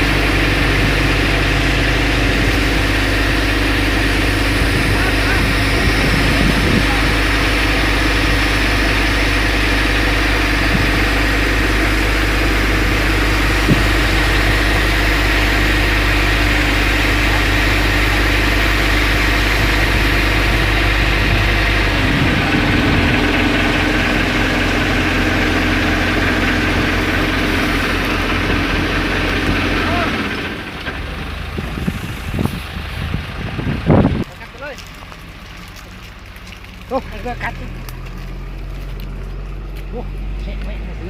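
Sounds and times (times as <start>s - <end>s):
fire engine engine running: 0.0s - 41.0s.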